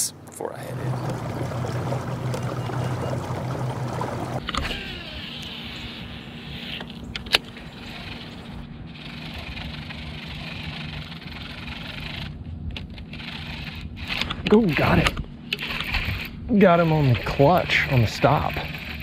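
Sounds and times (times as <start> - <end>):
fishing reel whirring: 0.7 - 15.0, 15.6 - 19.0.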